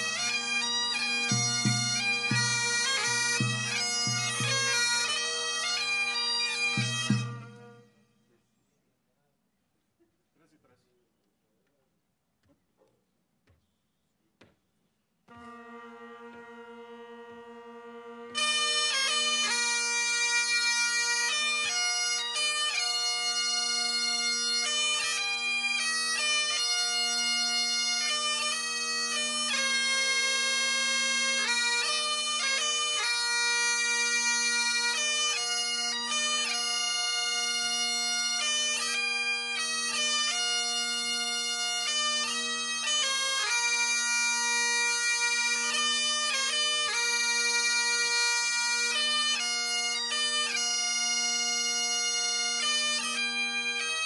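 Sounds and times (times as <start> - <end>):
bagpipe chanters playing a tune: 0.0 - 8.0, 15.3 - 54.0
bagpipe drones: 0.0 - 8.1, 15.3 - 54.0.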